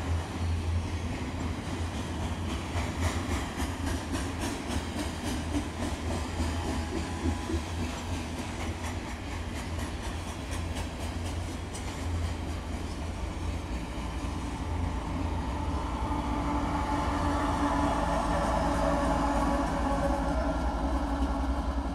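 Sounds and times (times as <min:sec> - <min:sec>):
diesel locomotive engine drone: 0:00.0 - 0:21.9
train wheels rumbling on rails: 0:00.0 - 0:21.9.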